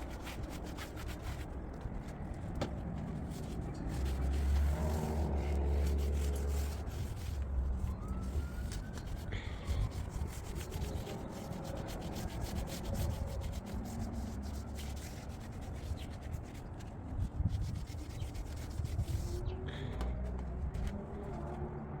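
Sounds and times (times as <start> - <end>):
hand scrubbing a surface: 0.0 - 2.3, 3.2 - 19.5.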